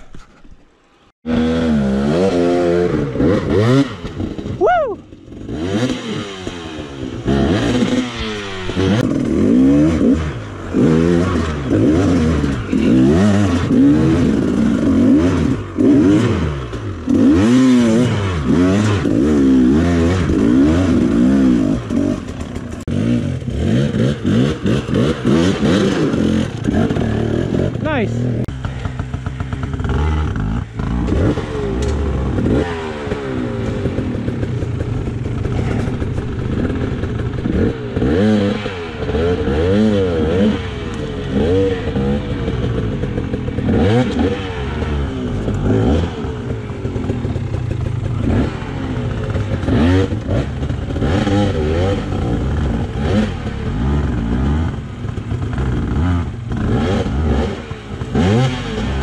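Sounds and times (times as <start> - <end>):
dirt bike engine revving: 1.2 - 59.0.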